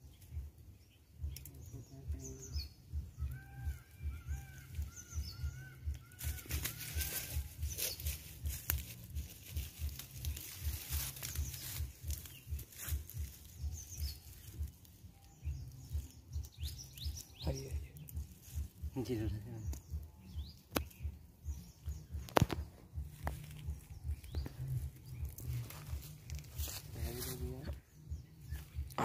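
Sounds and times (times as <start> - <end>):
low throbbing pulse: 0.0 - 29.0
rustling in dry leaves and grass: 3.1 - 29.0.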